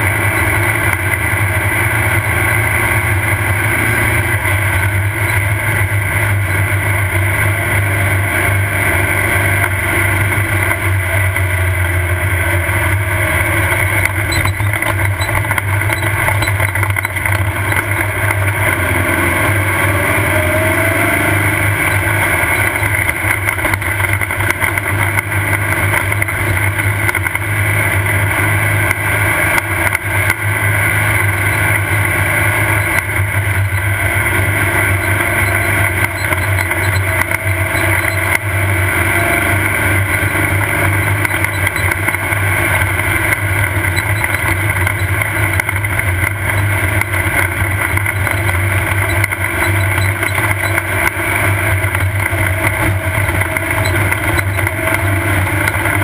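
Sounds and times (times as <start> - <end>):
race car engine running: 0.0 - 56.0.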